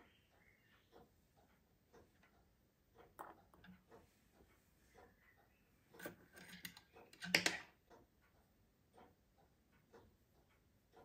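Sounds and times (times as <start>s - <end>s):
small clicks and taps: 0.7s - 11.0s.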